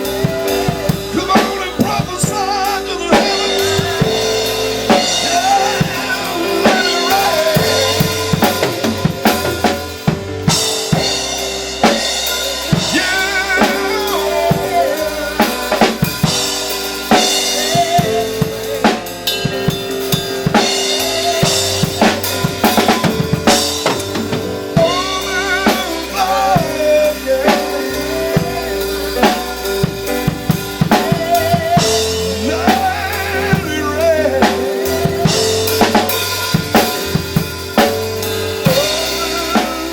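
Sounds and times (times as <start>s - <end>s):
drum kit playing a groove: 0.0s - 39.9s
held instrument chords: 0.0s - 39.9s.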